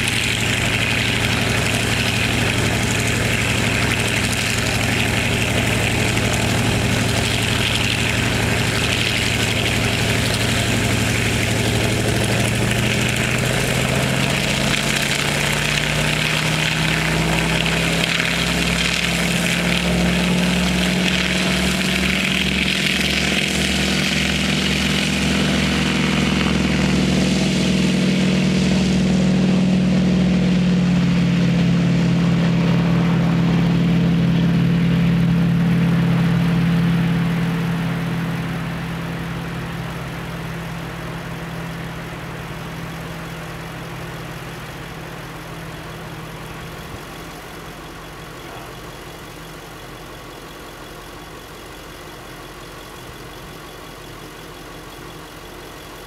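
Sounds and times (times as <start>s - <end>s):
propeller plane engines droning: 0.0s - 56.0s.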